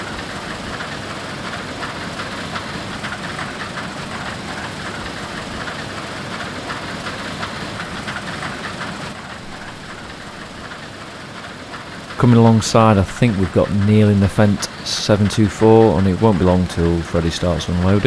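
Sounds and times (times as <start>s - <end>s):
combine harvester machinery drone: 0.0s - 18.0s
fast rattling clatter: 0.0s - 18.0s.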